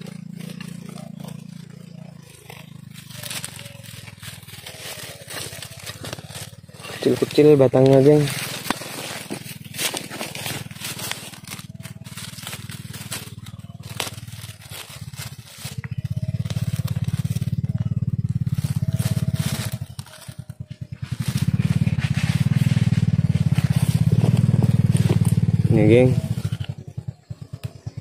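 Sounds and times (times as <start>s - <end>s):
dry undergrowth crunching: 0.0s - 28.0s.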